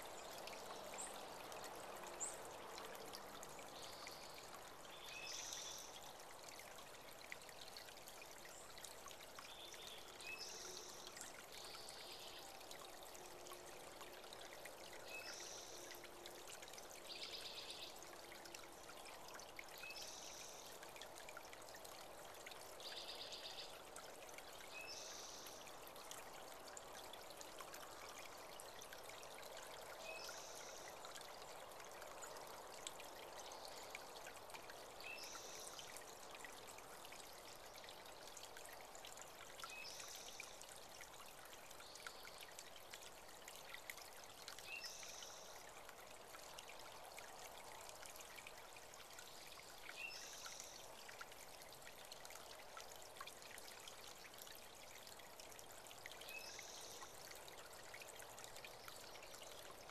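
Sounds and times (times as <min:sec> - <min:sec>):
creek water trickling: 0:00.0 - 0:59.9.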